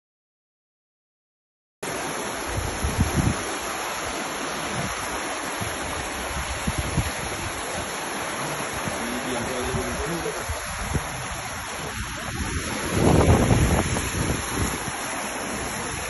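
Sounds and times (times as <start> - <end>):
floodwater rushing: 1.8 - 16.0.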